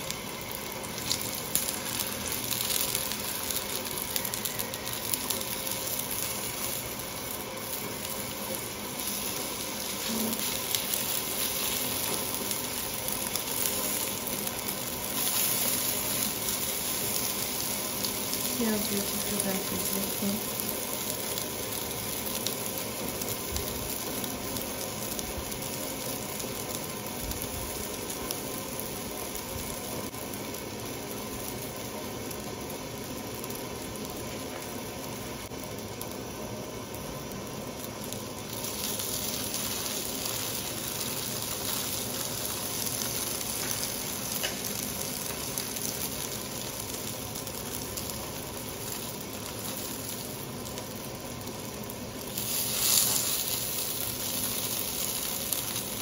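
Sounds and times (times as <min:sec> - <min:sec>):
sausages sizzling in a frying pan: 0:00.0 - 0:56.0.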